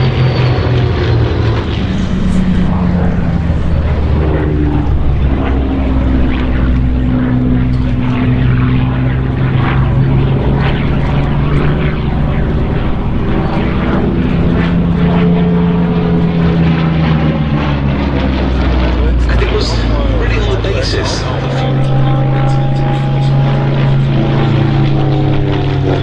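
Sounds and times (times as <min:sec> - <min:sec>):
propeller plane engines droning: 0:00.0 - 0:26.0.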